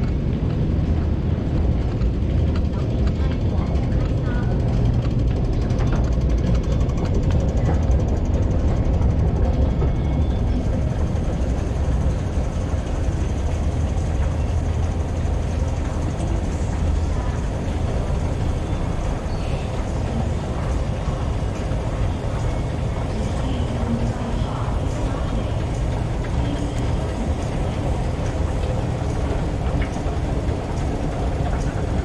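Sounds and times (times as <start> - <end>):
escalator rumbling: 0.0 - 32.0.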